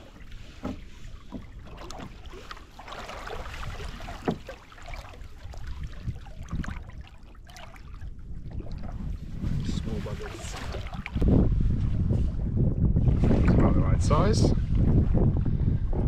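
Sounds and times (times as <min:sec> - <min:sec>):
water lapping against kayak: 0:00.0 - 0:16.0.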